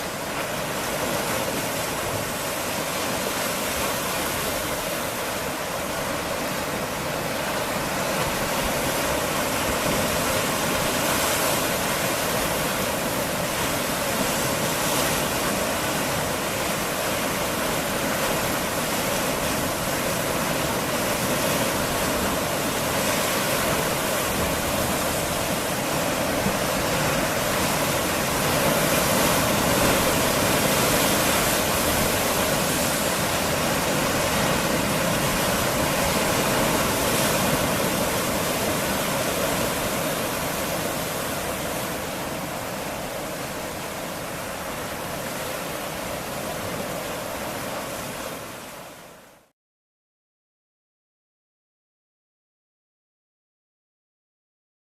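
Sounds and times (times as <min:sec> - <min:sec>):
sea waves washing against rocks: 0:00.0 - 0:49.0.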